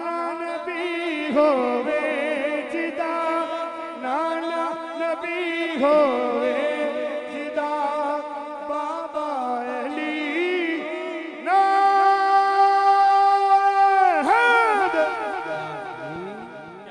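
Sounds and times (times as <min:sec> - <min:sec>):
man singing: 0:00.0 - 0:16.9.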